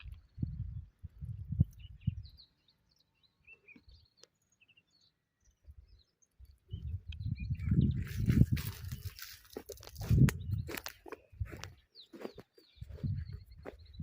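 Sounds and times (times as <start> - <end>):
bird chirps: 0.0 - 14.0.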